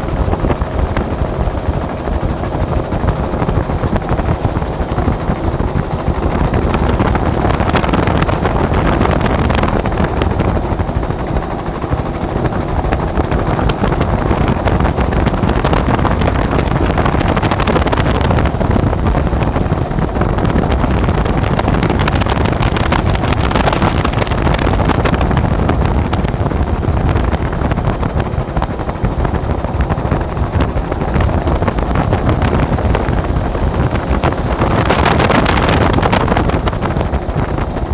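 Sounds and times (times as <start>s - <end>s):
helicopter engine and rotor noise: 0.0s - 37.9s
wind on microphone: 0.0s - 37.9s.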